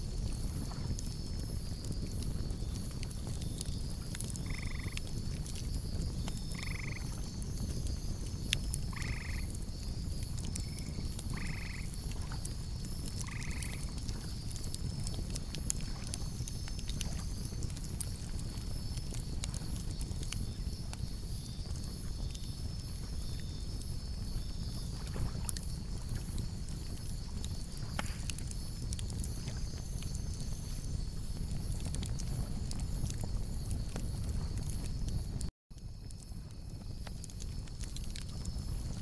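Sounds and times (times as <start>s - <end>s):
campfire crackling and popping: 0.0s - 39.0s
insects chirping: 0.0s - 39.0s.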